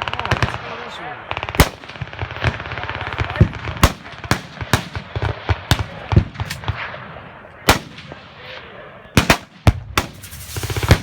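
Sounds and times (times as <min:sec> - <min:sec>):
sharp bangs with echo: 0:00.0 - 0:11.0.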